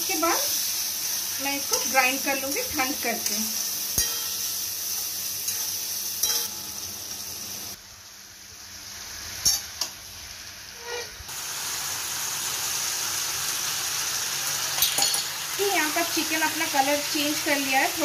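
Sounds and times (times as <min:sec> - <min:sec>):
oil sizzling in a pan: 0:00.0 - 0:18.0.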